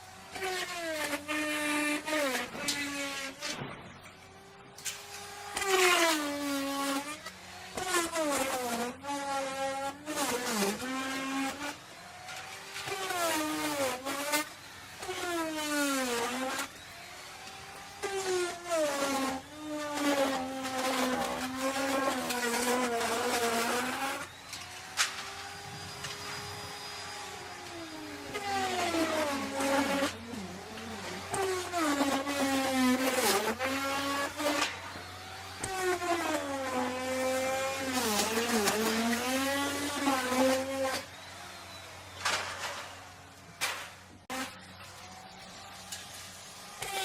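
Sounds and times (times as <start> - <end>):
router cutting wood: 0.0 - 47.0.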